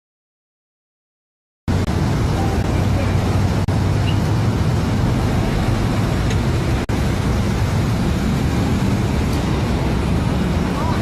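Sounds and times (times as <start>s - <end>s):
car road and engine noise: 1.7s - 11.0s.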